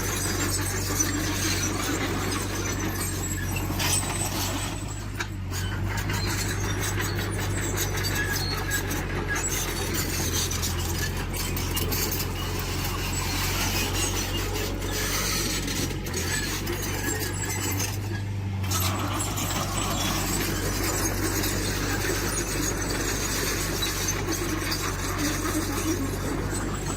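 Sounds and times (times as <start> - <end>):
heavy machinery diesel engine: 0.0 - 26.9.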